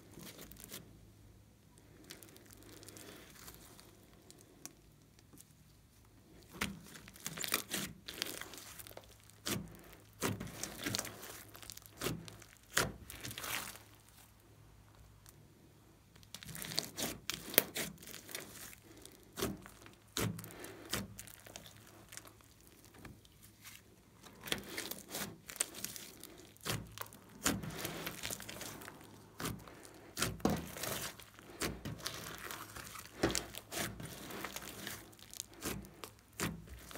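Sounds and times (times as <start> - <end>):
slime crackling and popping: 0.0 - 0.9, 1.7 - 15.4, 16.1 - 36.9.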